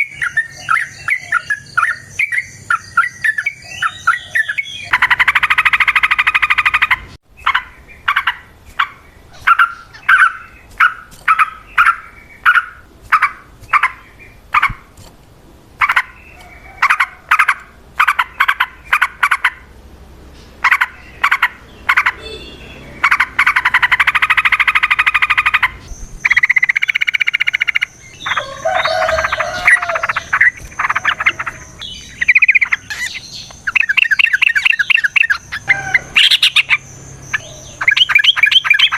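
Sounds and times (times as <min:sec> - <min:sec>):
bulbul calling: 0:00.0 - 0:14.9, 0:15.8 - 0:19.8, 0:20.4 - 0:38.9.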